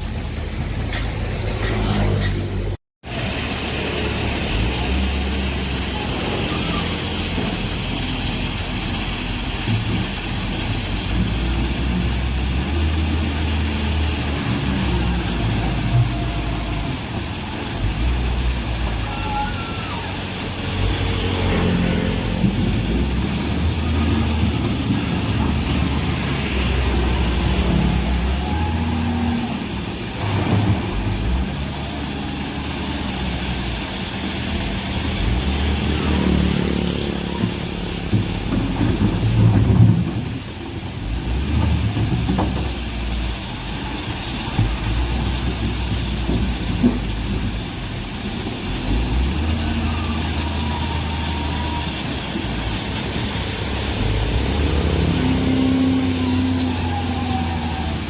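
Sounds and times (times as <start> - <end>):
diesel earthmoving machinery engine: 0.0 - 58.0.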